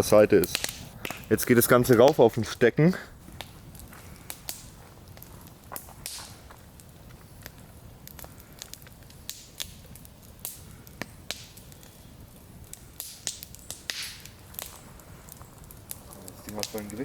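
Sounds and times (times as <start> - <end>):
campfire crackling: 0.0 - 17.0
fire hissing: 0.0 - 17.0
fire snapping and popping: 0.0 - 17.0.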